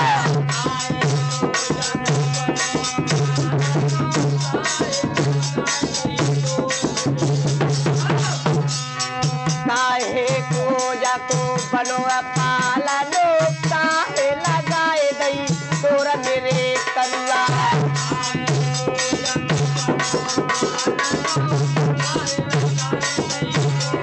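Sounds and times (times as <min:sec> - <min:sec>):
hand drum rhythm: 0:00.0 - 0:24.0
harmonium: 0:00.0 - 0:24.0.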